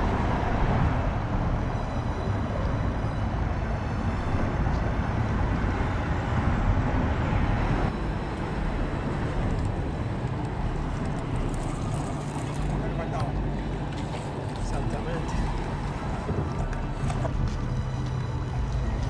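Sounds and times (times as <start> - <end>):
deep fluctuating outdoor rumble: 0.0 - 19.0.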